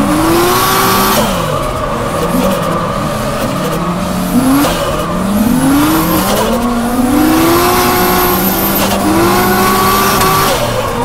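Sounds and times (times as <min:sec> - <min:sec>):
car engine revving: 0:00.0 - 0:11.0
tyres squealing: 0:00.9 - 0:11.0.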